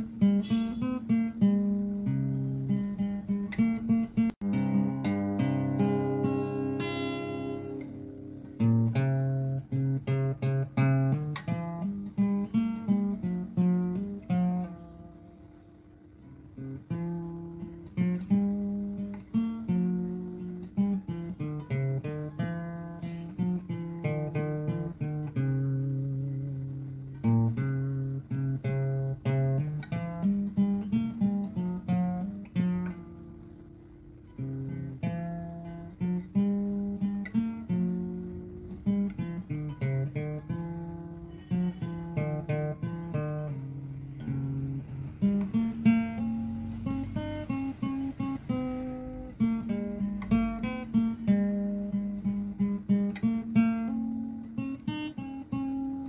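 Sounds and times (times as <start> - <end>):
acoustic guitar melody: 0.0 - 56.0.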